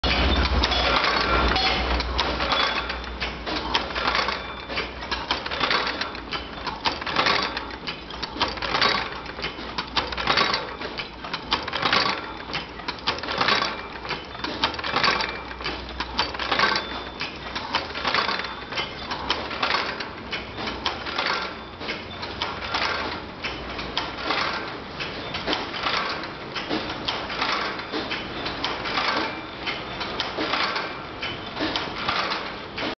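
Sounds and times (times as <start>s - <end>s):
machine clacking metal on metal: 0.0s - 32.9s.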